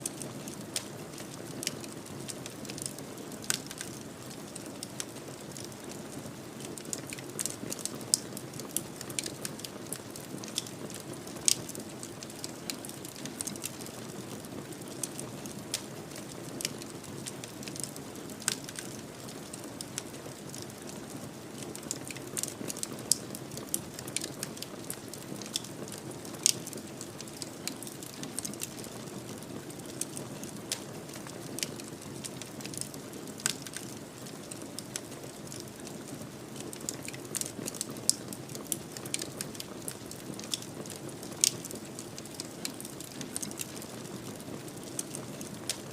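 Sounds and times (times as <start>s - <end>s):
fire crackles and pops: 0.0s - 45.9s.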